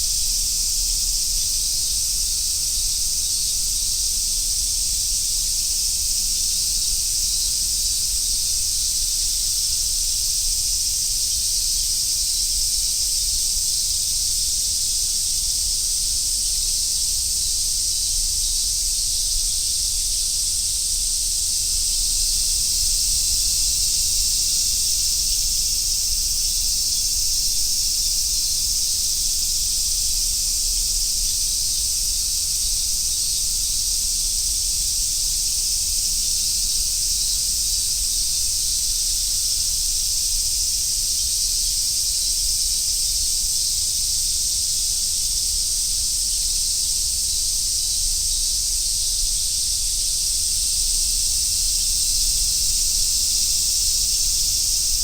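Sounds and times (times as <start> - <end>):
cicadas chorus: 0.0 - 55.0.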